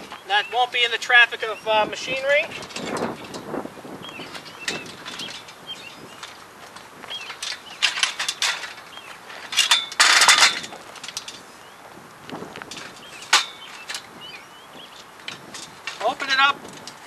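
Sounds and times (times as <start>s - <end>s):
tripod legs clicking and clattering: 2.4s - 17.0s.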